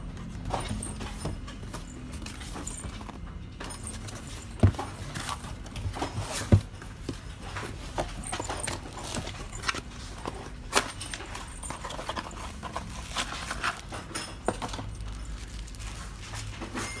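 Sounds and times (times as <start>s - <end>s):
hard objects clicking and knocking: 0.0s - 17.0s.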